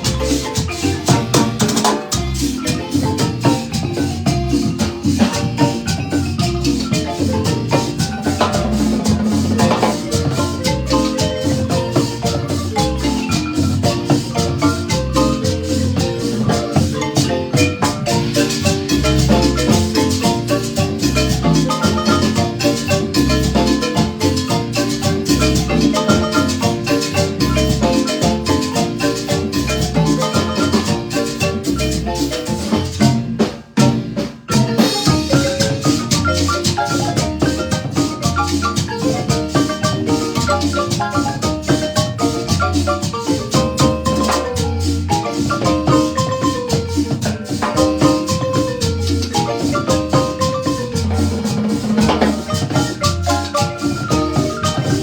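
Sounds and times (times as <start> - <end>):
marimba ensemble playing: 0.0 - 55.0.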